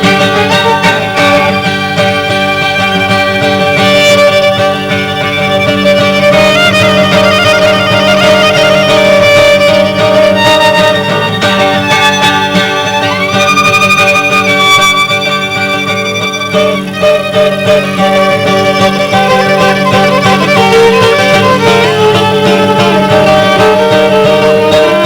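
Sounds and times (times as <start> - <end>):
guitar accompaniment: 0.0 - 25.0
violin melody: 0.0 - 25.0.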